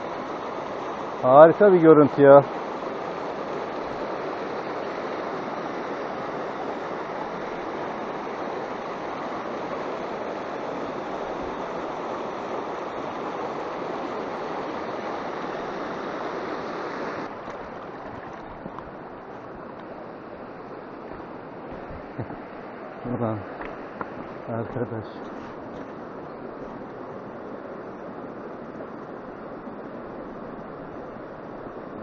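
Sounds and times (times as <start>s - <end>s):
stream rushing over stones: 0.0s - 32.0s.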